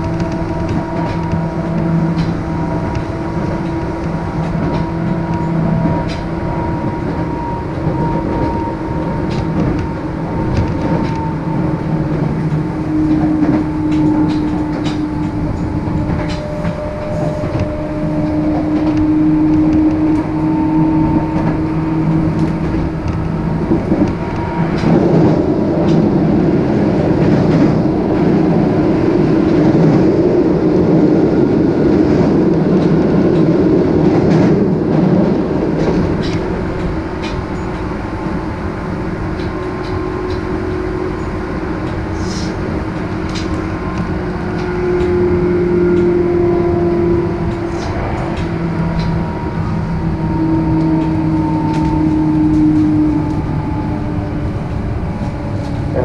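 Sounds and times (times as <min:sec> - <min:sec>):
rail clicks: 0:00.0 - 0:56.0
train wheels rumbling on rail: 0:00.0 - 0:56.0.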